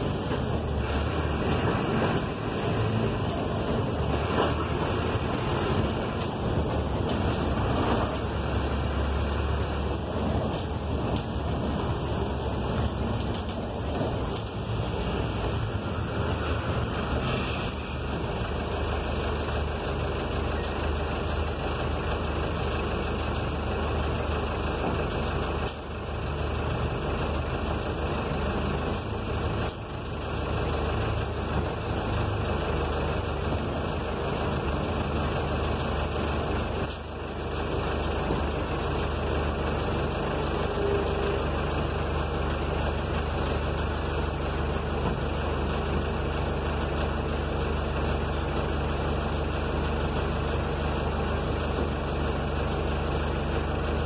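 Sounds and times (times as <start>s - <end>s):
bus engine hum: 0.0s - 54.0s
road and cabin noise: 0.0s - 54.0s.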